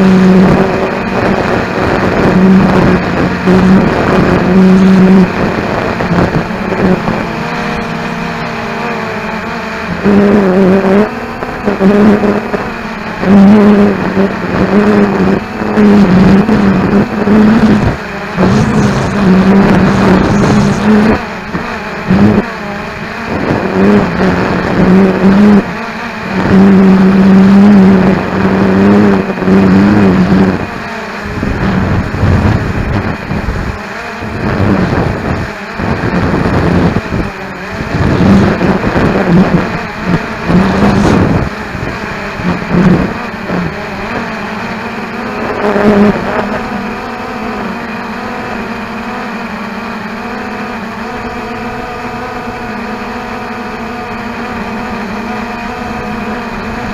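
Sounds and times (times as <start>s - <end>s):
wind buffeting microphone: 0.0s - 27.2s, 27.8s - 47.7s
quadcopter motors humming: 0.0s - 56.9s.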